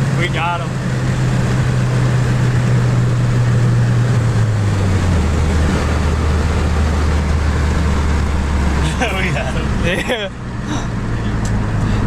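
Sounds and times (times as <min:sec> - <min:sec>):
car engine running: 0:00.0 - 0:12.0
road and wind noise: 0:00.0 - 0:12.0.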